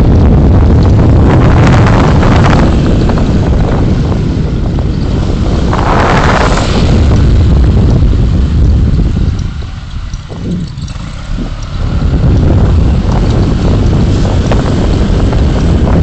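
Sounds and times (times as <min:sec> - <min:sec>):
road and engine rumble: 0:00.0 - 0:16.0
wind buffeting microphone: 0:00.0 - 0:16.0.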